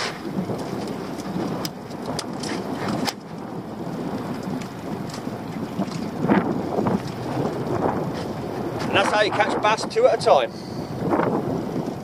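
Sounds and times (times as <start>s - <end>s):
water splashing at hull: 0.0s - 12.0s
wind buffeting microphone: 0.0s - 12.0s.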